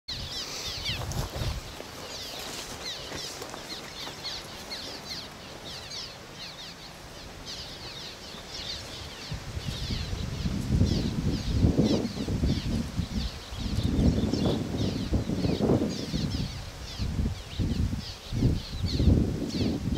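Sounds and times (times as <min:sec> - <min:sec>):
swallows chirping: 0:00.1 - 0:19.8.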